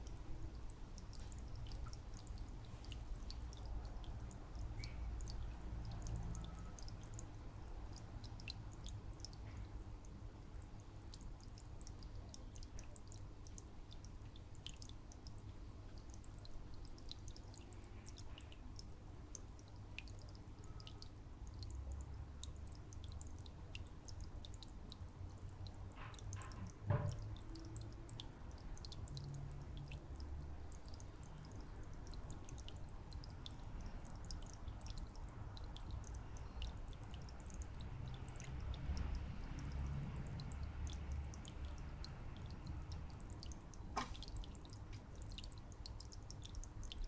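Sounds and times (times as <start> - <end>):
water dripping and trickling: 0.0 - 47.0.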